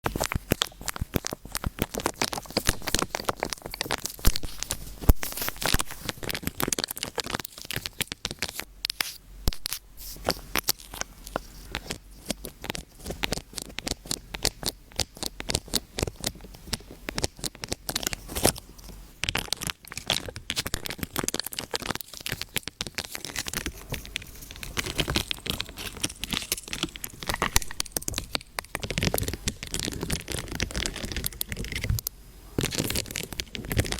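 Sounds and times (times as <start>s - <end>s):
dense irregular crackling: 0.0s - 8.6s, 10.6s - 33.9s.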